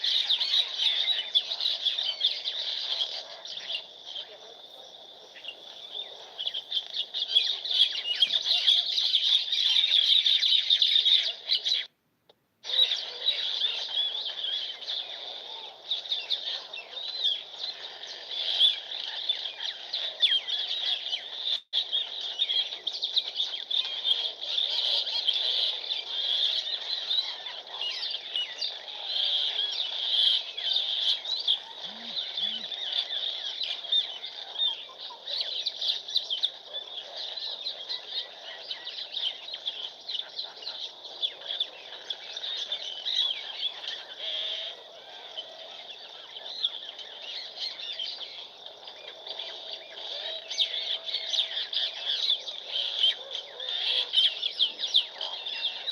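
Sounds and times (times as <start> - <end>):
small birds chirping: 0.0 - 11.9, 12.6 - 55.9.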